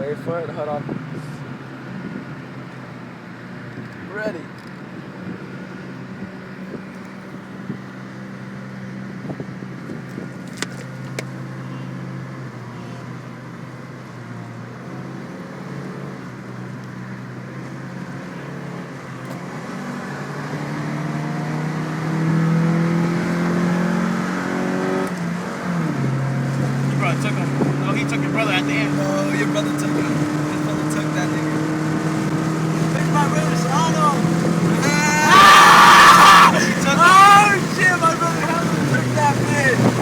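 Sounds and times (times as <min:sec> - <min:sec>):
car engines accelerating: 0:00.0 - 0:40.0.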